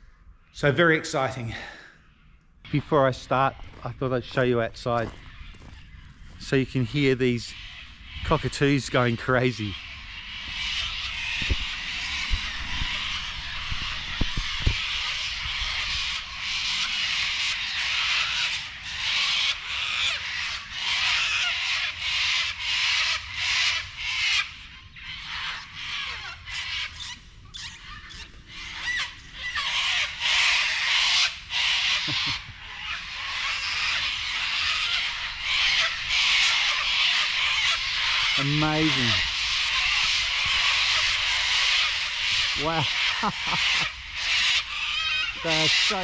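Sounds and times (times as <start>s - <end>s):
cockatoos screeching: 1.1s - 46.0s.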